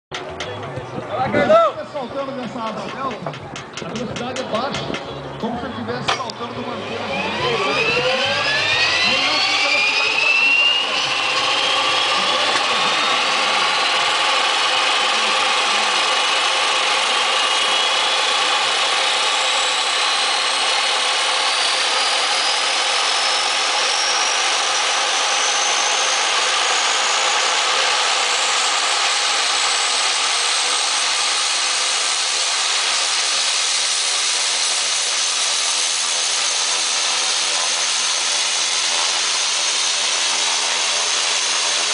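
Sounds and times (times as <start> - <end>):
turboprop engine spooling up: 0.1 - 41.9.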